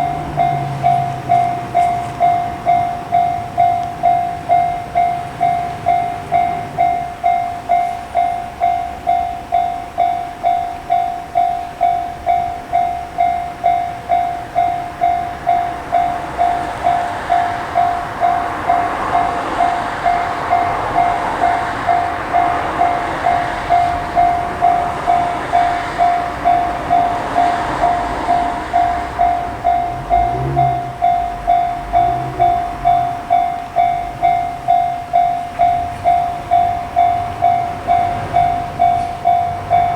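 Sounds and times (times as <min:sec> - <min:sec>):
level crossing alarm ringing: 0:00.0 - 0:39.9
train passing: 0:00.0 - 0:39.9.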